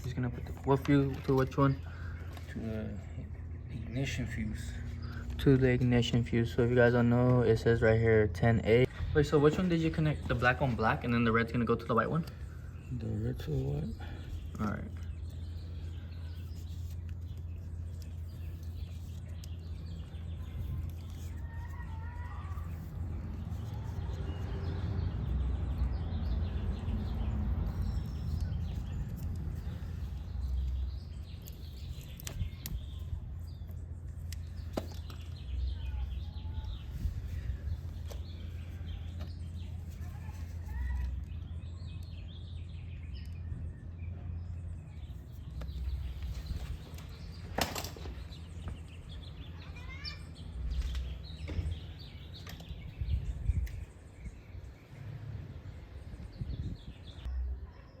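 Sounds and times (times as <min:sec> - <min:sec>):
steady low rumble: 0:00.0 - 0:49.6, 0:50.2 - 0:58.0.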